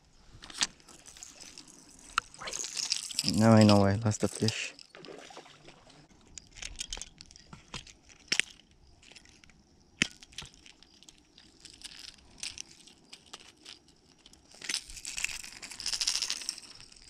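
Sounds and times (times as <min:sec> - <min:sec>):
handling rustle: 0:00.2 - 0:09.6, 0:10.2 - 0:17.0.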